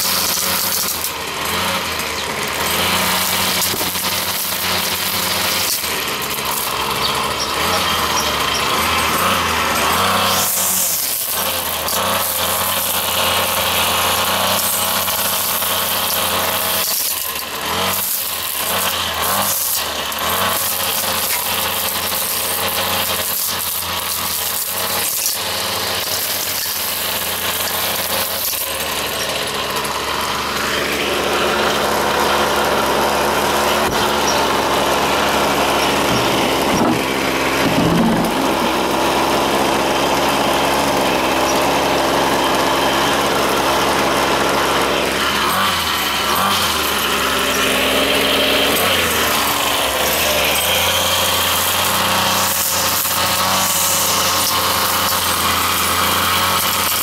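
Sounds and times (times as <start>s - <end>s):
string trimmer engine running: 0.0s - 57.0s.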